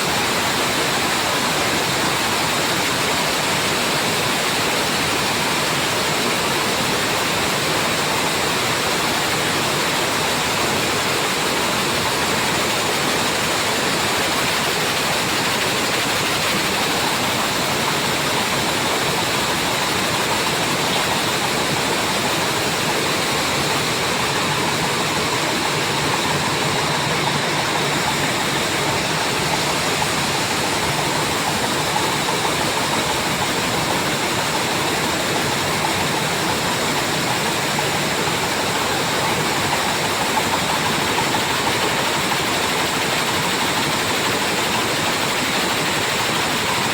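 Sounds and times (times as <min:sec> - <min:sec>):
washing machine rushing noise: 0:00.0 - 0:46.9.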